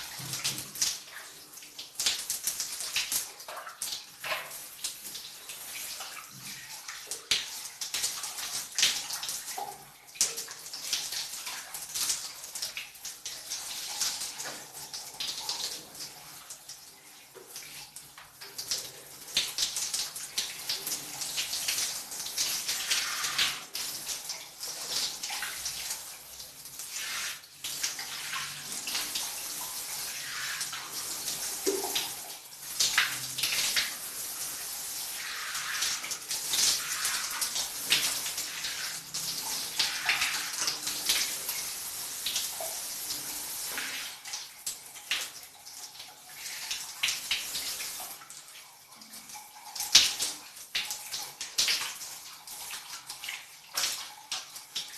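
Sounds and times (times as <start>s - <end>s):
shower water splashing: 0.0s - 54.9s.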